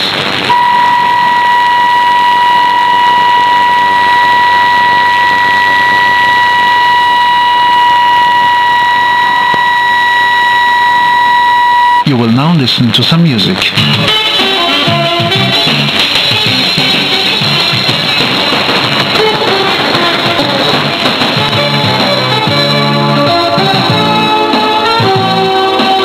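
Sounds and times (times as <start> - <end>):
radio static hiss: 0.0 - 26.0
steady test tone: 0.4 - 25.8.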